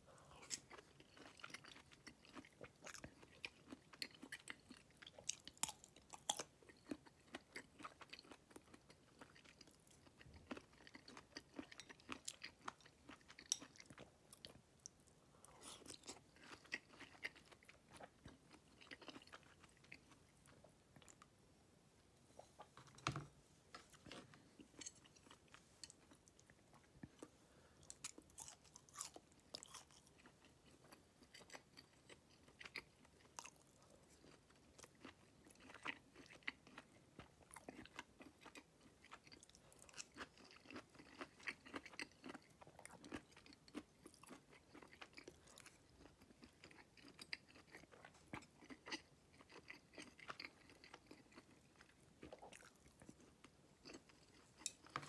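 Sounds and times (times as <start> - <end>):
person chewing food: 0.1 - 21.3, 22.3 - 55.0.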